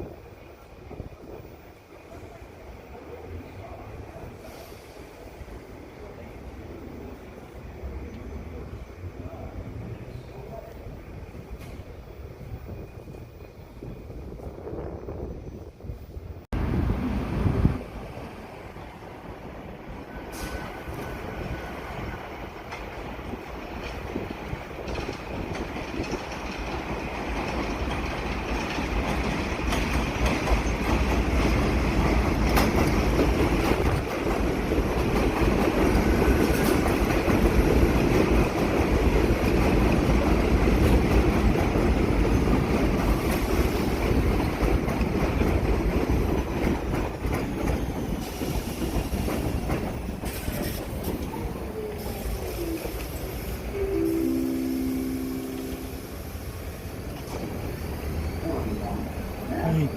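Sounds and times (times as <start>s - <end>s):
subway train wheel rumble: 0.0s - 59.9s.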